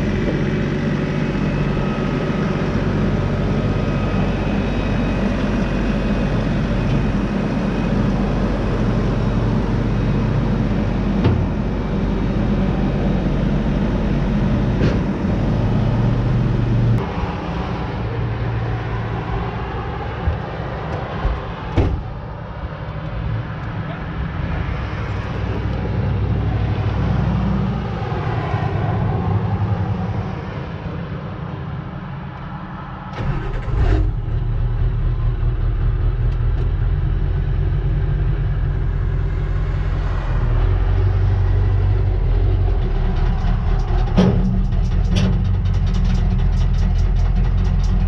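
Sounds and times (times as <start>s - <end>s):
diesel engine running: 0.0s - 32.2s, 33.1s - 48.0s.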